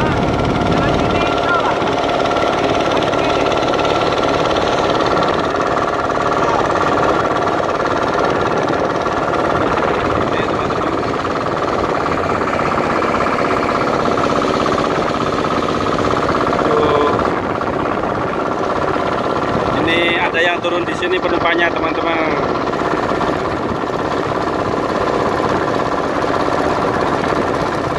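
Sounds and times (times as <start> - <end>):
boat engine droning: 0.0 - 27.9.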